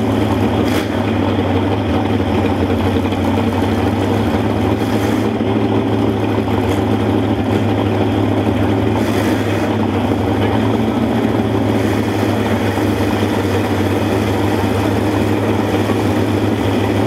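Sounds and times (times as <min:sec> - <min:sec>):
truck engines idling: 0:00.0 - 0:17.0.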